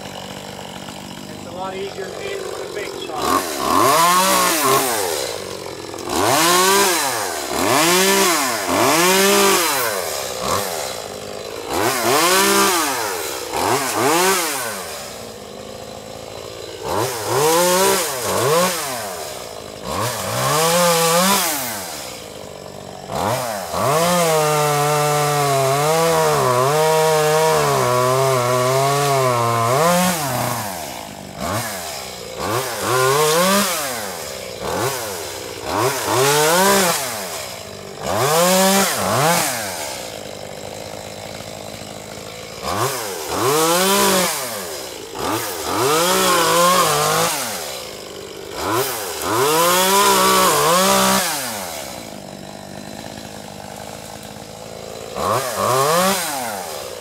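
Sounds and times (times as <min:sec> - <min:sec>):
chainsaw cutting through limb: 0:00.0 - 0:57.0
chainsaw revving: 0:00.0 - 0:57.0.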